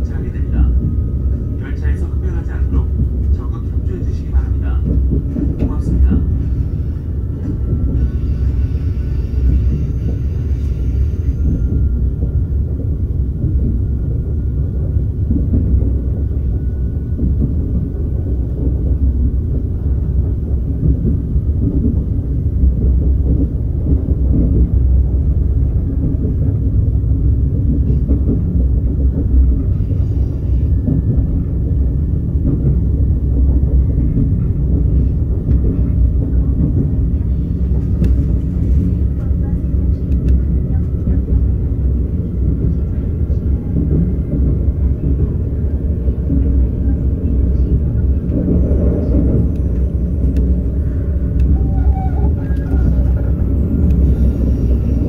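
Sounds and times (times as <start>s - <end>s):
train rumble inside cabin: 0.0s - 55.0s.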